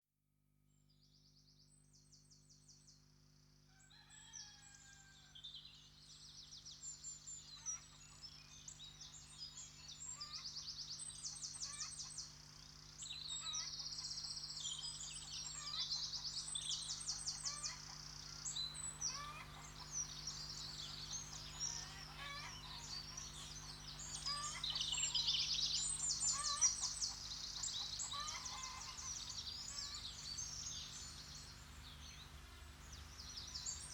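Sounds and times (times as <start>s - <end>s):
songbirds chirping and trilling: 3.7s - 33.9s.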